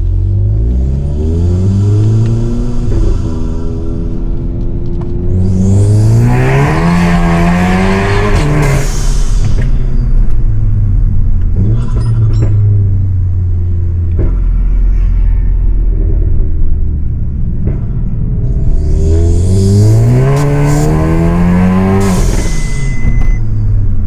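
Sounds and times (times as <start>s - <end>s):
low exhaust drone: 0.0s - 24.0s
turbo car engine accelerating: 0.0s - 24.0s.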